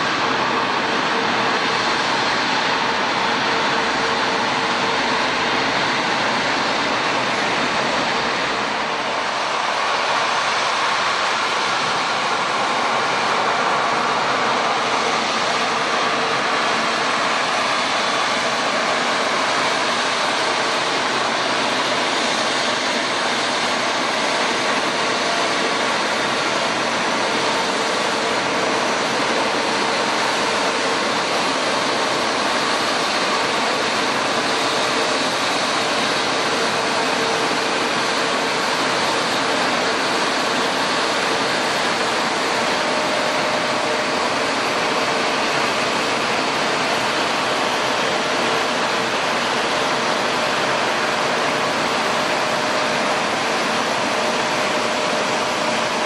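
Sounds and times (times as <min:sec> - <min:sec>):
jet engines rushing: 0:00.0 - 0:56.0.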